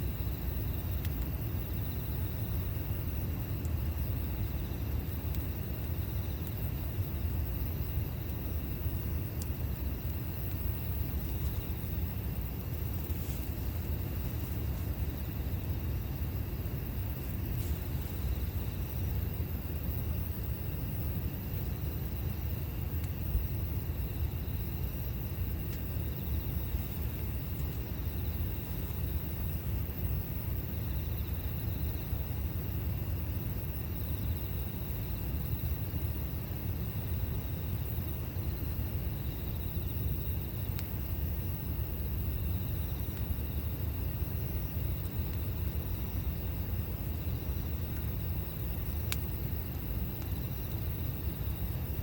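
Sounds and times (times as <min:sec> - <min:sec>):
campfire burning: 0:00.0 - 0:52.0
wood popping in fire: 0:00.4 - 0:29.6, 0:37.9 - 0:52.0.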